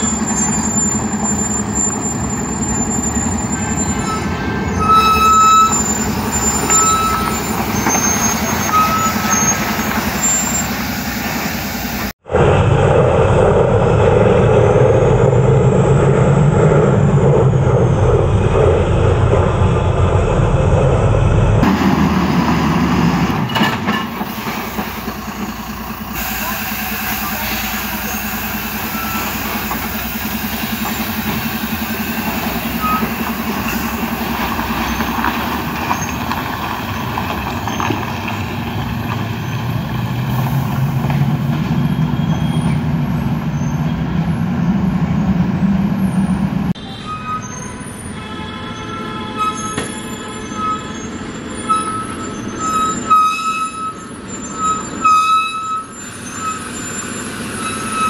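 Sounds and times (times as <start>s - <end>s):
truck diesel engine labouring: 0.0s - 58.0s.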